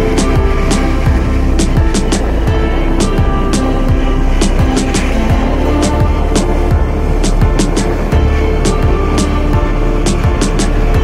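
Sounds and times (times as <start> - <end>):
beat music: 0.0 - 11.0.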